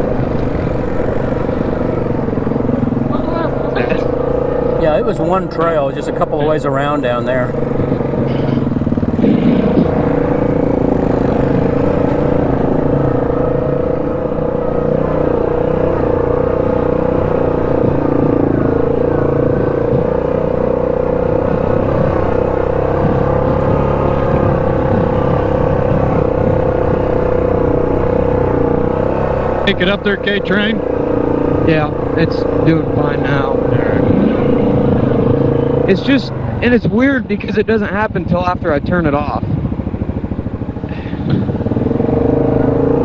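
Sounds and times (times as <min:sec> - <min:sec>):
atv engine running: 0:00.0 - 0:43.0.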